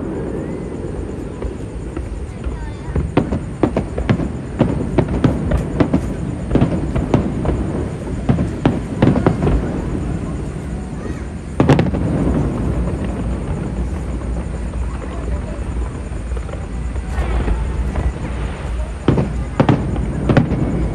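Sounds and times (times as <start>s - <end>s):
fireworks banging and popping: 0.0s - 20.9s.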